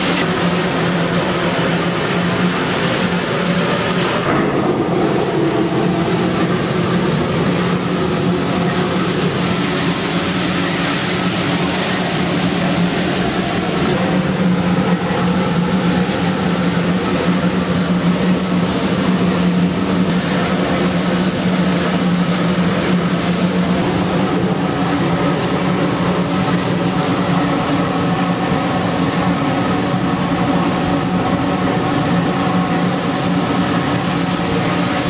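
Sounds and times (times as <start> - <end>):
steam locomotive running noise: 0.0 - 35.0.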